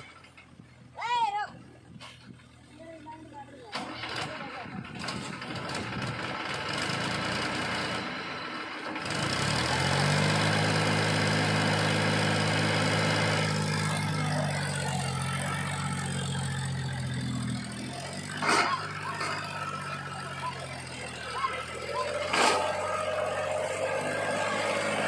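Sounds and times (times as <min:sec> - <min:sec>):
tractor diesel engine drone: 0:00.0 - 0:25.0.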